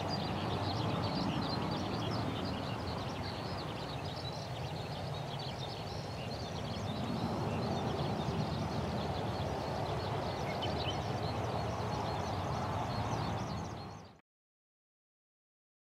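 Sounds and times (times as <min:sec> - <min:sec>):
jet engines rumbling: 0:00.0 - 0:14.0
birds chirping: 0:00.0 - 0:14.2.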